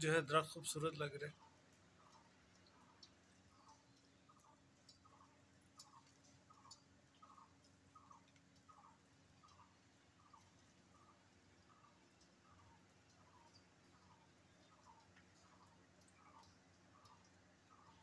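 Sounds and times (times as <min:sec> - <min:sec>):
faint ticks: 0:01.3 - 0:18.0.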